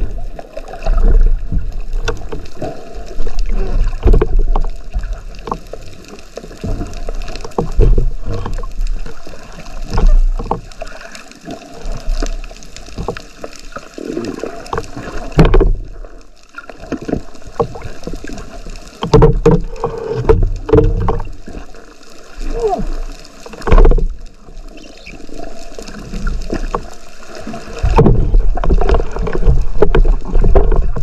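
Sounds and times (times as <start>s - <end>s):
underwater knocks and gurgles: 0.0s - 31.0s
underwater sloshing and rumbling: 0.0s - 31.0s.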